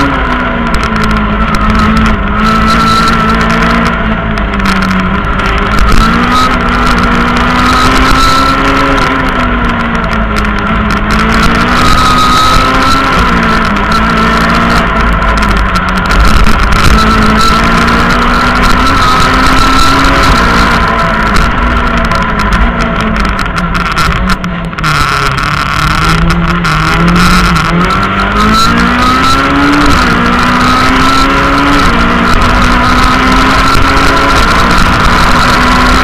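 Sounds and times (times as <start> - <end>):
car engine revving: 0.0 - 36.0
road and tyre noise: 0.0 - 36.0.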